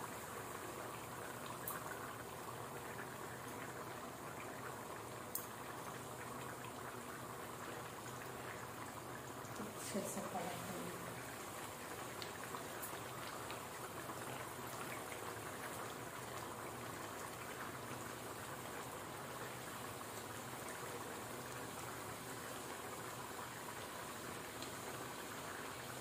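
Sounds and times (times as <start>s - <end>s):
hot oil sizzling and crackling: 0.0s - 26.0s.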